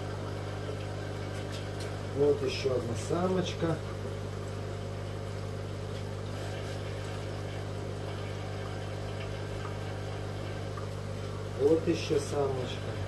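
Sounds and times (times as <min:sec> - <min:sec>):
air pump electric hum: 0:00.0 - 0:13.0.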